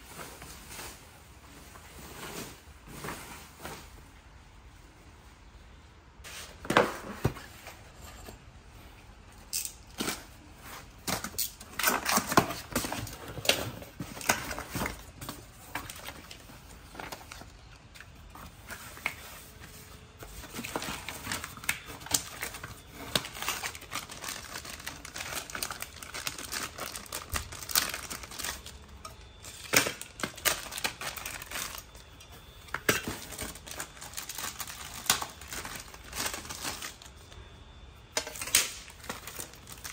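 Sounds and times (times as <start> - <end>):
plastic and foam crinkling: 0.0 - 4.4, 9.5 - 39.9.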